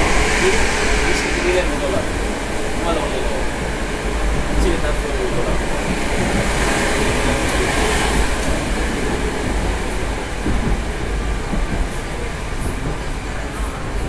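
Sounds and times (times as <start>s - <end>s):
train wheels running noise: 0.0s - 14.0s.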